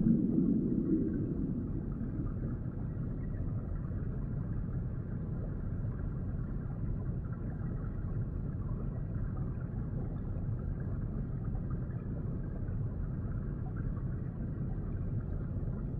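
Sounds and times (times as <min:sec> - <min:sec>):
muffled underwater rumble: 0:00.0 - 0:15.9.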